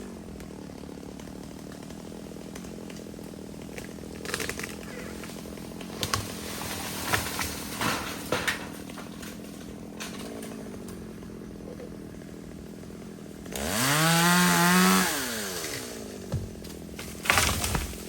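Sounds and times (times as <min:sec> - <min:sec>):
chainsaw idling and revving: 0:00.0 - 0:18.0.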